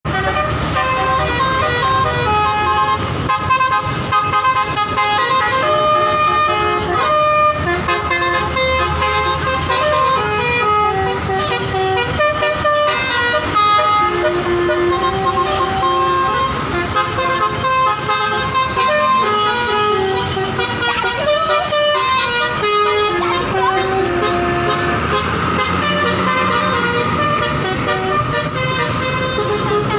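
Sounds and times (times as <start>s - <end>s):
multi-tone bus horn melody: 0.0s - 29.9s.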